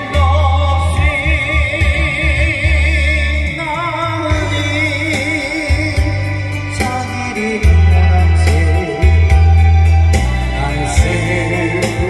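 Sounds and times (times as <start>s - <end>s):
backing track with heavy bass: 0.0s - 12.0s
person singing with vibrato: 0.0s - 12.0s.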